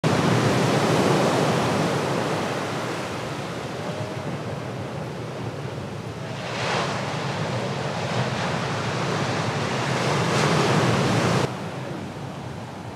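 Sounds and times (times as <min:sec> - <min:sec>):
ocean waves breaking: 0:00.1 - 0:12.9.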